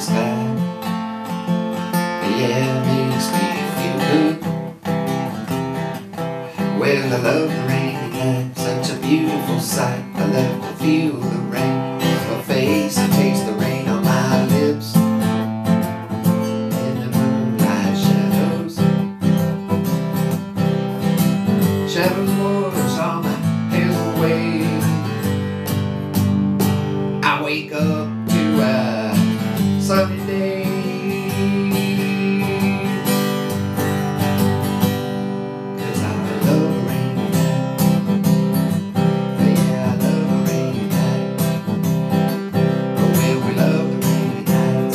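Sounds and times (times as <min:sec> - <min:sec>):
fingerpicked acoustic guitar: 0:00.0 - 0:44.9.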